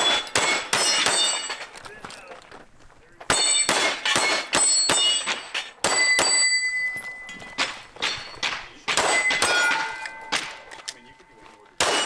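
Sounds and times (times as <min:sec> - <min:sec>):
rapid pistol shots: 0:00.0 - 0:02.3, 0:03.2 - 0:12.0
steel targets clanging: 0:00.0 - 0:12.0.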